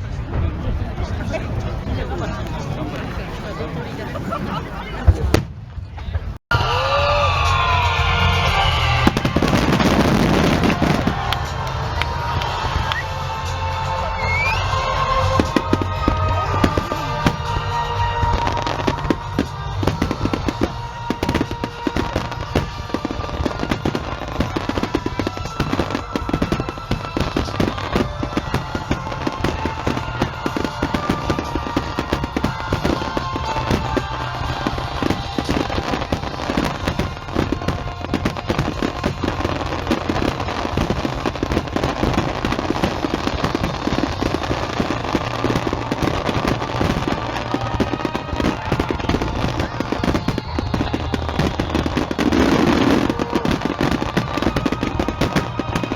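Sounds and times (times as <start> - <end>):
fireworks bangs and crackles: 0.0 - 55.9
music playing: 6.5 - 55.9.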